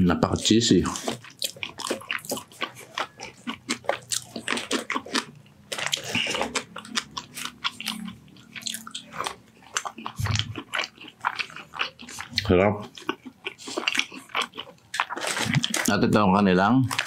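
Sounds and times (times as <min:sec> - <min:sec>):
man chewing: 0:00.2 - 0:16.0.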